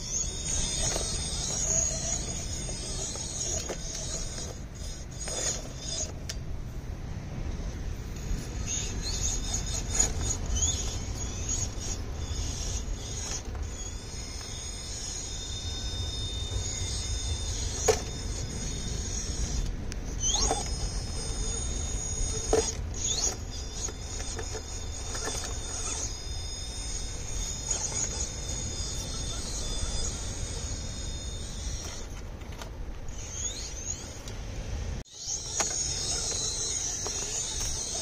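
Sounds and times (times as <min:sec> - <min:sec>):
electric motor and gears whining: 0:00.0 - 0:38.0.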